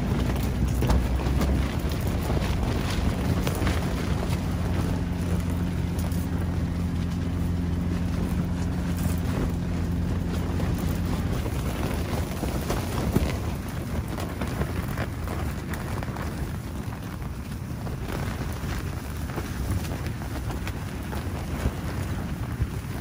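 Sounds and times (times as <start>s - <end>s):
low steady hum: 0.0s - 23.0s
tent fabric flapping in wind: 0.0s - 23.0s.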